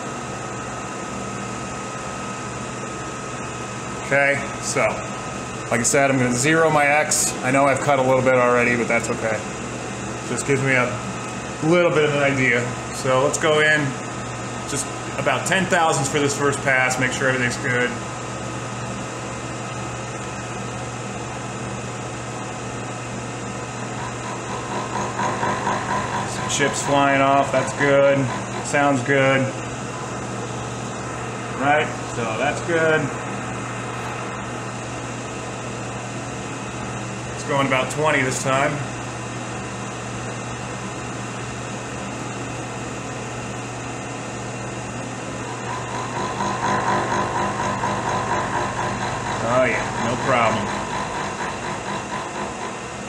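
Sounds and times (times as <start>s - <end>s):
milling machine spindle humming: 0.0s - 53.0s.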